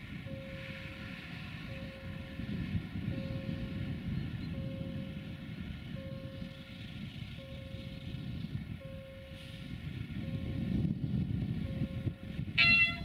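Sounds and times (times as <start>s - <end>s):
locomotive diesel engine rumbling: 0.0s - 13.0s.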